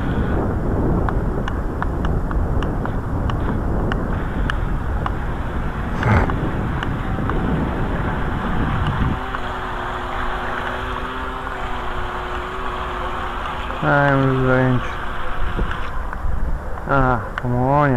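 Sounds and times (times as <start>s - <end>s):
steady low hum: 1.6s - 17.4s.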